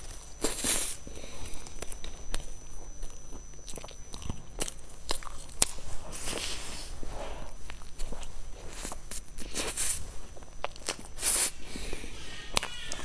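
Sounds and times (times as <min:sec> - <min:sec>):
person chewing bread roll: 0:00.0 - 0:13.0.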